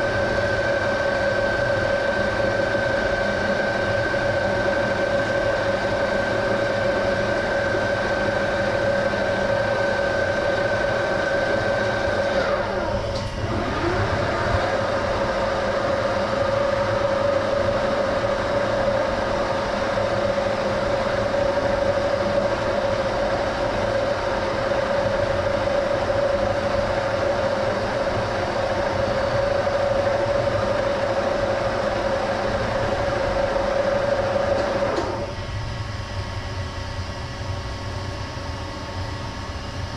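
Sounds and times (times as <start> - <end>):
lathe drive whine: 0.0 - 39.9
lathe mechanical running noise: 0.0 - 39.9.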